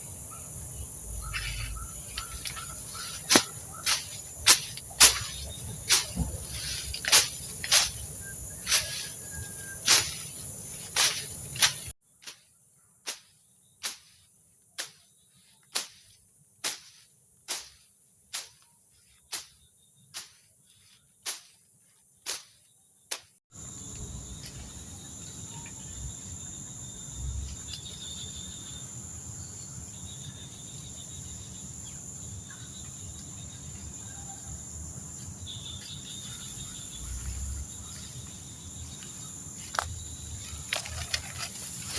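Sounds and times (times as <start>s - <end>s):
crickets chirring: 0.0s - 41.9s.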